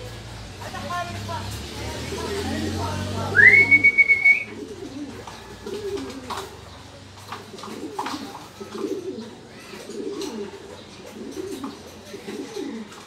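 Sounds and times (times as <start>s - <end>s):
pigeon cooing: 1.9s - 13.0s.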